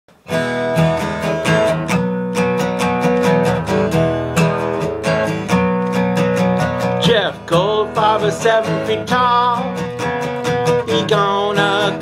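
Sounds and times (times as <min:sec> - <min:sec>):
acoustic guitar strumming: 0:00.1 - 0:12.0.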